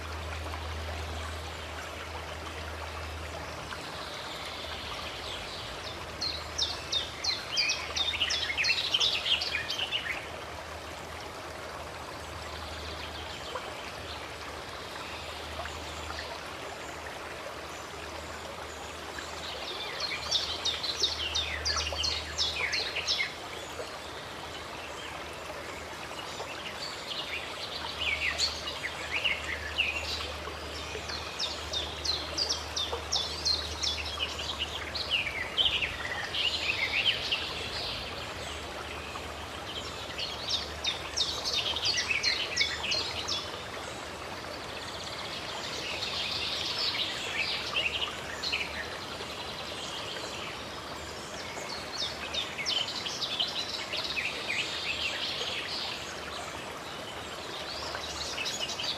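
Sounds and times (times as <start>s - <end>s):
running water stream: 0.0s - 58.9s
songbirds chirping: 0.0s - 58.9s.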